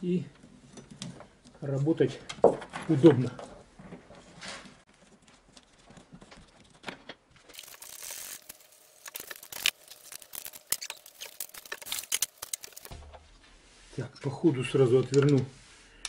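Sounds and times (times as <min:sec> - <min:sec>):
rustling: 0:02.6 - 0:16.0.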